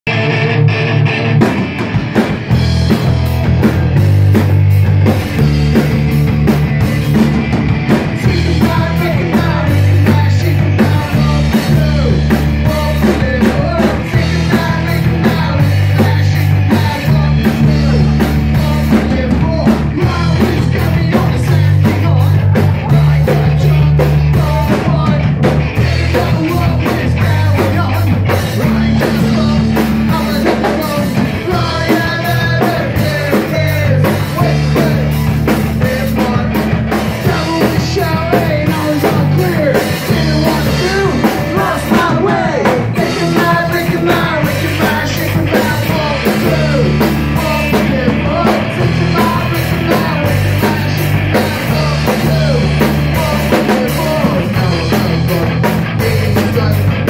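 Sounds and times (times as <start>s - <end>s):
rock band playing live: 0.0s - 57.0s
drums hitting steadily: 0.3s - 57.0s.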